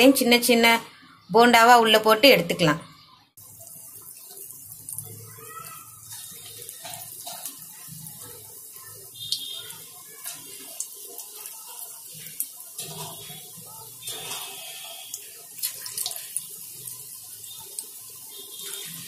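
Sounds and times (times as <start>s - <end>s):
batter sizzling in hot oil: 3.4s - 19.0s.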